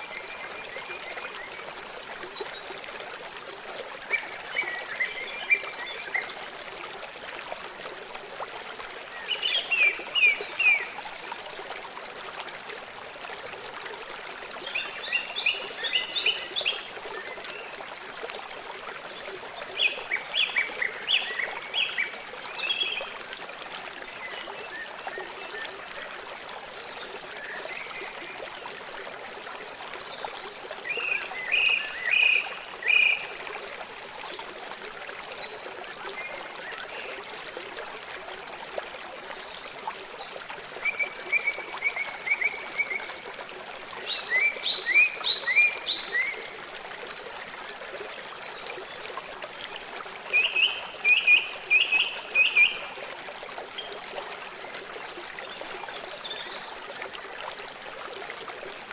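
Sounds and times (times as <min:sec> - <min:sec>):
stream trickling: 0:00.0 - 0:58.9.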